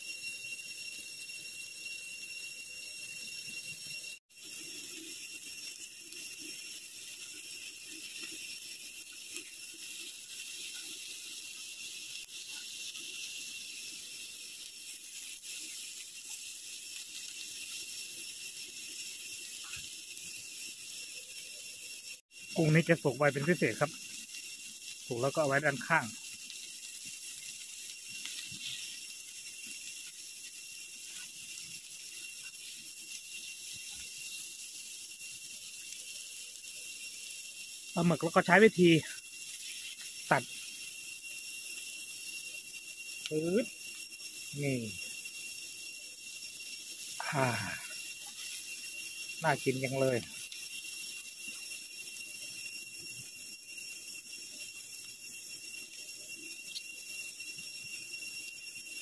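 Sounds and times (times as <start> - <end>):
food sizzling on griddle: 0.0 - 59.0
thin high whine: 0.0 - 59.0
faint crackles: 3.4 - 59.0.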